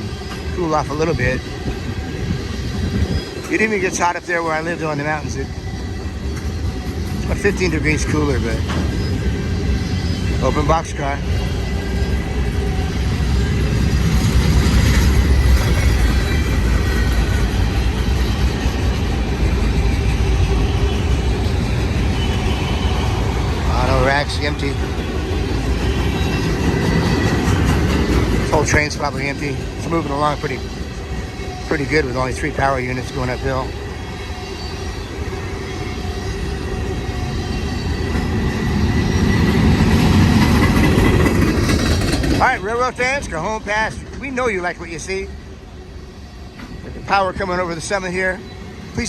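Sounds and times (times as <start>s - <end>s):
freight train wheels rumbling on rail: 0.0s - 49.0s.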